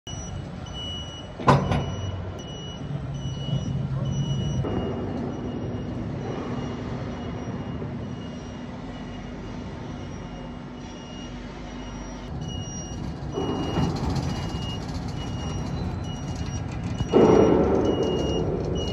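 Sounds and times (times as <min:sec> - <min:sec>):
high warning beeps: 0:00.1 - 0:18.9.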